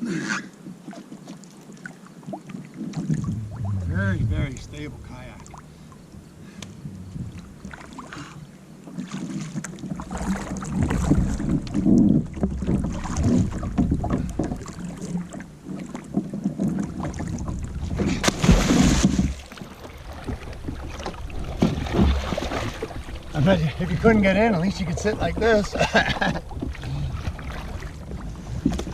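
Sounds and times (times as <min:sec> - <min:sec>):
water splashing against kayak: 0:00.5 - 0:28.9.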